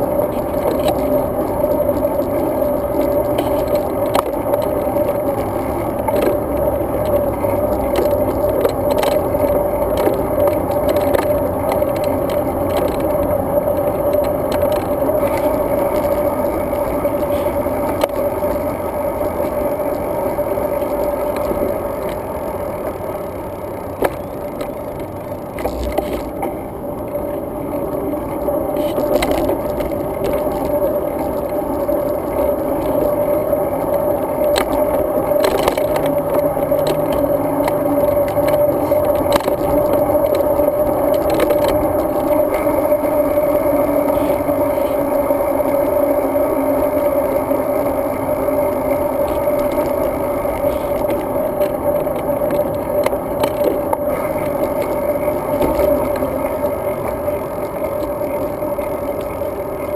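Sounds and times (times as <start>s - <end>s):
bike rattle: 0.0s - 59.9s
bike tyre rumble: 0.0s - 59.9s.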